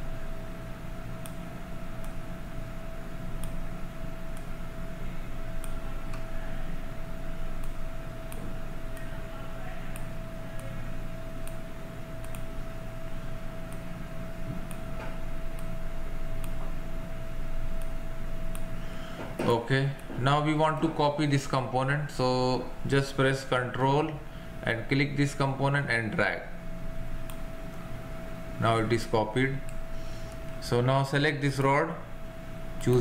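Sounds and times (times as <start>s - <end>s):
faint constant whine: 0.0s - 33.0s
low hum: 0.0s - 33.0s.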